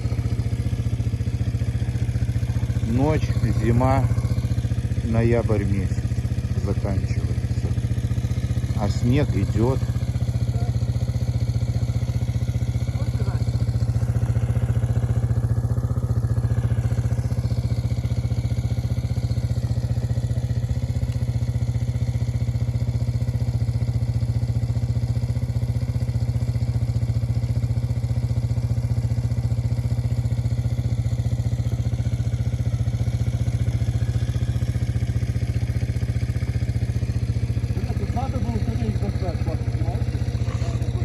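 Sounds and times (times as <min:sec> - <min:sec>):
vehicle engine idling: 0:00.0 - 0:41.0.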